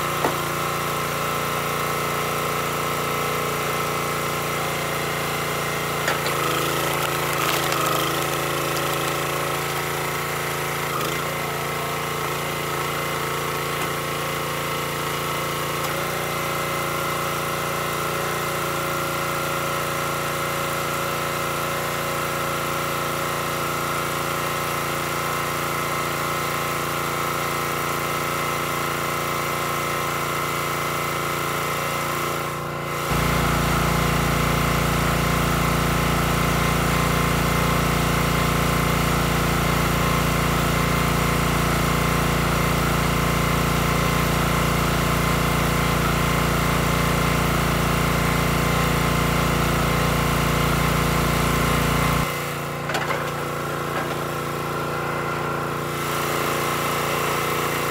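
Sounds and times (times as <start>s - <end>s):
small gas engine running: 0.0s - 57.9s.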